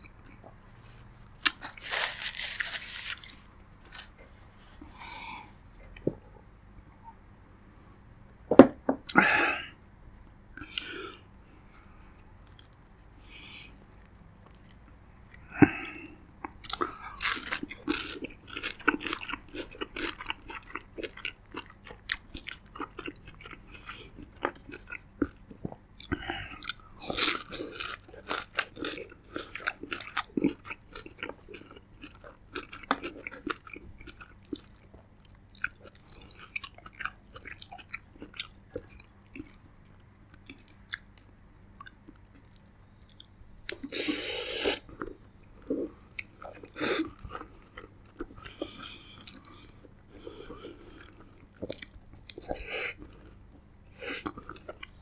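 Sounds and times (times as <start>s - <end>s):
person chewing food: 0.0s - 6.4s, 10.5s - 11.3s, 12.4s - 55.0s.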